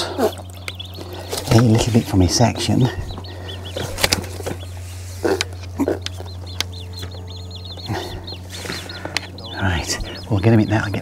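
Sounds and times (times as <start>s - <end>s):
small bird chirping: 0.0s - 11.0s
steady low hum: 0.0s - 11.0s.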